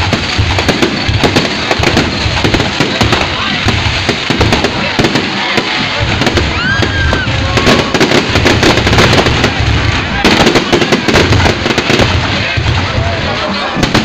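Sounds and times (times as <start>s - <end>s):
firework whistle: 0.0s - 11.8s
fireworks bangs and crackles: 0.0s - 14.0s.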